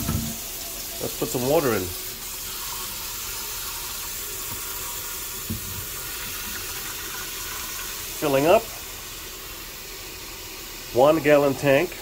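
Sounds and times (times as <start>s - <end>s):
faucet water filling plastic tank: 0.0s - 12.0s.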